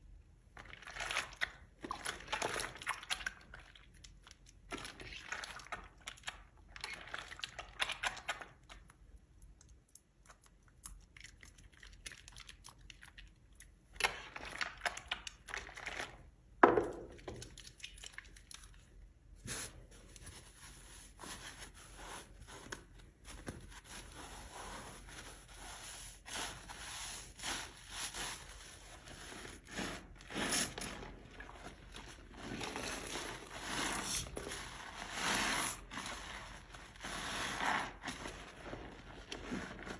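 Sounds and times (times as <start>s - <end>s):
wet soap being scraped and squished: 0.4s - 16.4s, 17.0s - 39.9s.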